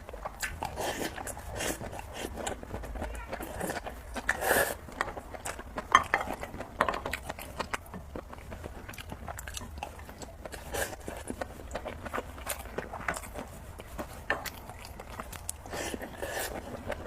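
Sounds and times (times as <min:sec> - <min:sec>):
noodles being chewed: 0:00.0 - 0:17.0.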